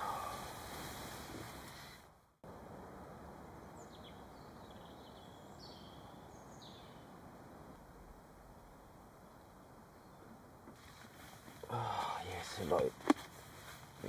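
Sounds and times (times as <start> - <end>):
faint birds chirping: 0.0 - 2.4, 3.2 - 14.0
background hiss: 0.0 - 14.0.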